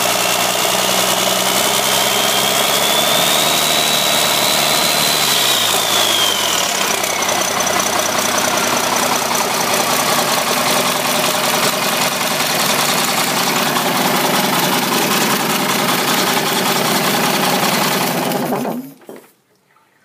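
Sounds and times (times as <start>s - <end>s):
diesel engine idling: 0.0s - 18.5s.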